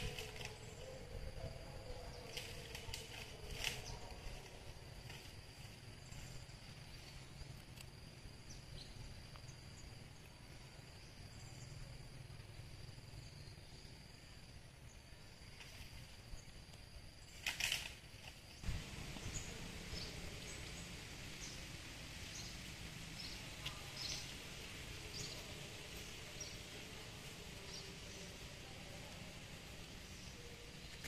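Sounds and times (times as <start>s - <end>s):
high insect drone: 0.0s - 31.0s.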